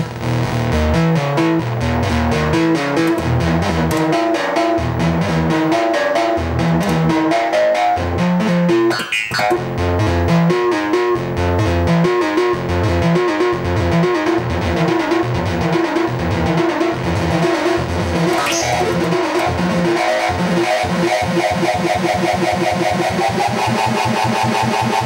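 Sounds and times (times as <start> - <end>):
pulsing synth bass: 0.0 - 25.0
synthesizer stepping notes: 0.0 - 25.0.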